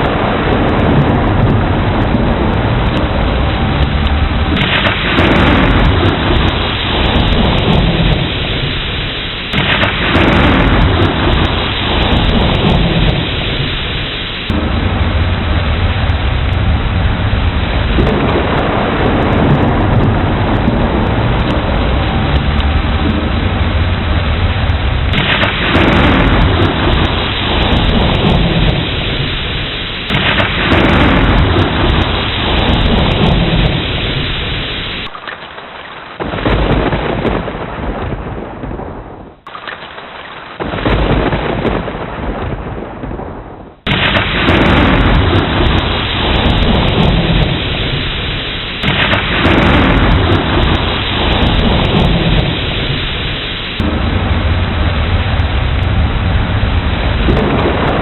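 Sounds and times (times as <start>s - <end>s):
rolling thunder: 0.0s - 35.4s, 36.2s - 58.0s
heavy rain: 0.0s - 58.0s.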